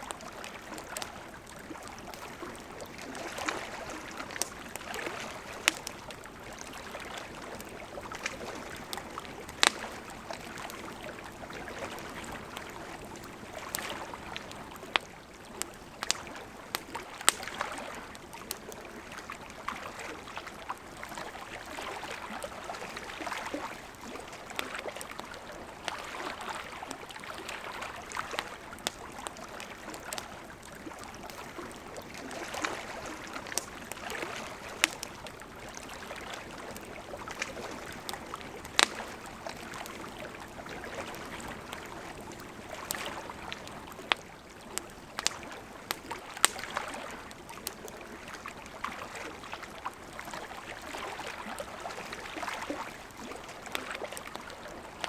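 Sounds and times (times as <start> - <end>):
campfire crackling and popping: 0.0 - 55.0
river flowing: 0.0 - 55.0.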